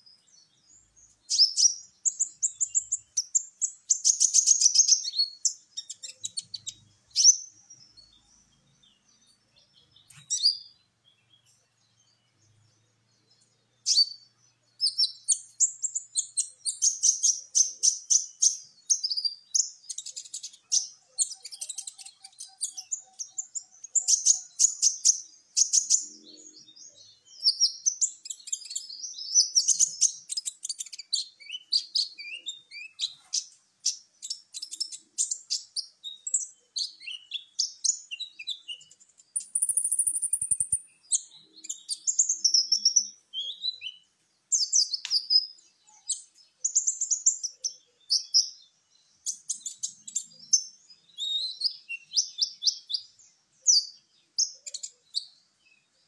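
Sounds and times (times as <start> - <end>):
sunbird chirping and trilling: 0.0 - 56.0.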